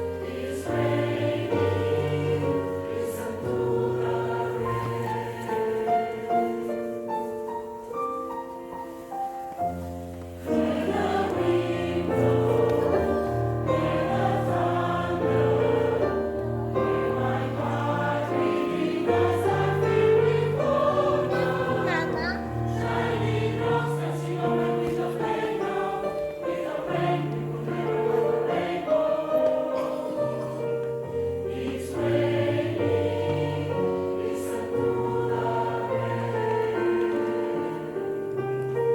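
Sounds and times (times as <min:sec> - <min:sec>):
choir singing held chords: 0:00.0 - 0:38.9.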